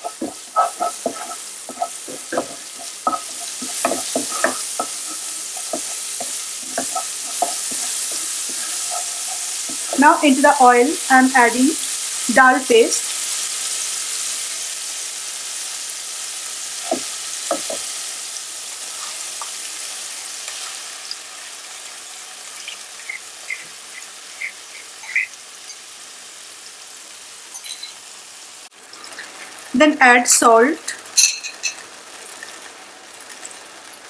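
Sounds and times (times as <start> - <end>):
paste sizzling in hot oil: 0.0 - 34.0.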